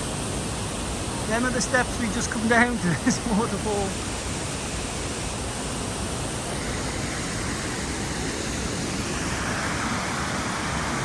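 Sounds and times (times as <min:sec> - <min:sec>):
waterfall crashing: 0:00.0 - 0:11.0.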